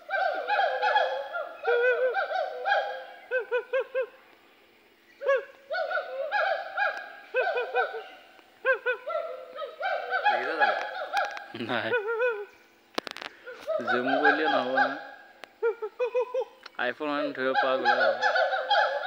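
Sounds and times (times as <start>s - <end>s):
gibbons whooping: 0.0s - 4.2s, 5.2s - 12.6s, 13.4s - 16.6s, 17.2s - 19.0s.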